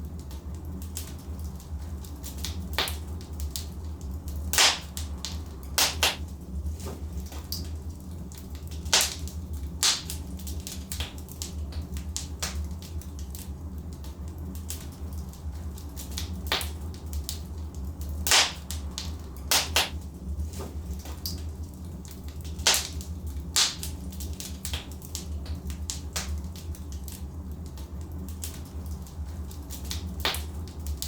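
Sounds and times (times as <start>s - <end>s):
logs crackling and popping: 0.0s - 31.0s
low fire rumble: 0.0s - 31.0s.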